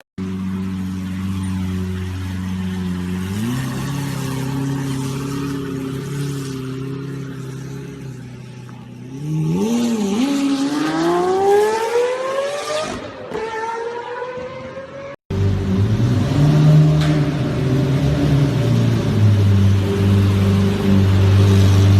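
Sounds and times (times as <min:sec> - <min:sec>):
car engine accelerating: 0:00.2 - 0:21.9.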